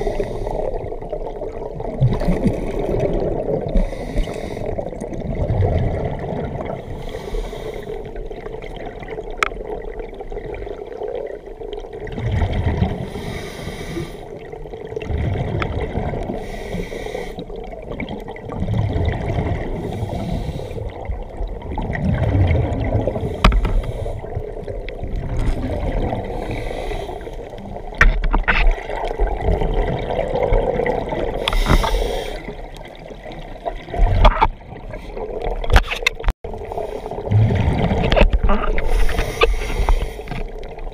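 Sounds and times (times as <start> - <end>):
exhaled bubbles gurgling underwater: 0.0 - 40.9.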